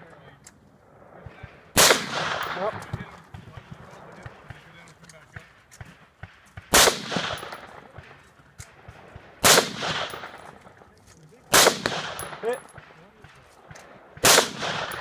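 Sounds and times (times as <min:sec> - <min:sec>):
gunshots echoing: 0:00.8 - 0:10.8, 0:11.5 - 0:15.0.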